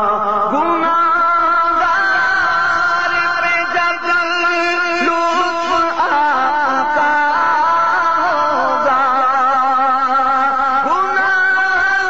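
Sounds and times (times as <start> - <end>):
man singing: 0.0 - 12.0.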